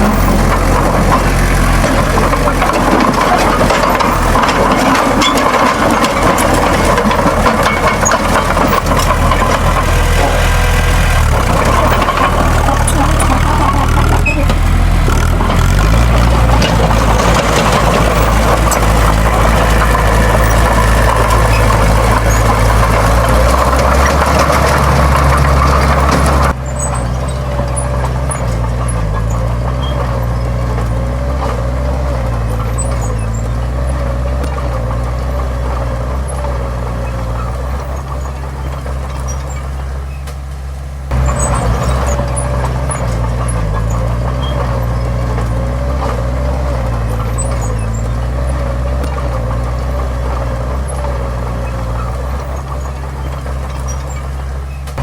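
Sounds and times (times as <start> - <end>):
heavy diesel machinery engine hum: 0.0 - 55.0.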